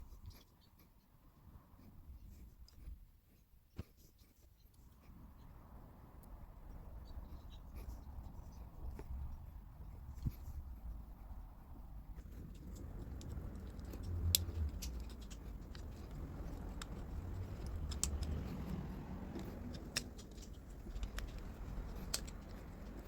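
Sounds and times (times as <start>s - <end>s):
sharp clicks and small scrapes: 0.0s - 1.1s, 1.8s - 23.0s.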